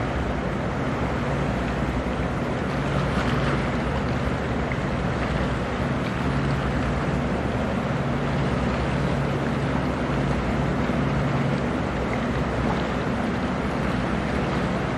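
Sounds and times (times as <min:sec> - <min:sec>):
boat engines droning: 0:00.0 - 0:14.9
bow wave and wake rushing: 0:00.0 - 0:14.9.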